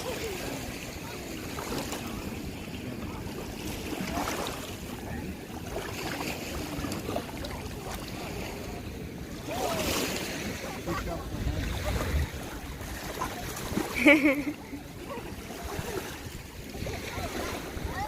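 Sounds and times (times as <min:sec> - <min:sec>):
wind rumbling on microphone: 0:00.0 - 0:13.9, 0:15.0 - 0:18.0
faint distant voices: 0:00.0 - 0:18.0
sea surf washing on beach: 0:00.0 - 0:18.0.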